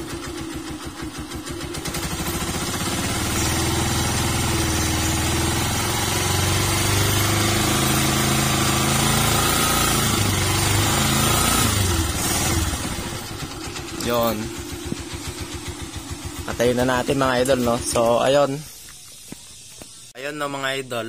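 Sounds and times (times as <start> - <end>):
motorcycle engine idling and revving: 0.0 - 20.2.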